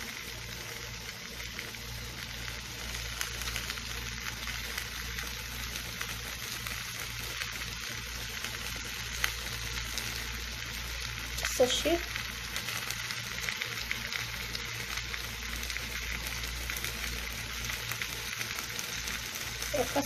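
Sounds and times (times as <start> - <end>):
food sizzling in a hot pan: 0.0 - 20.0.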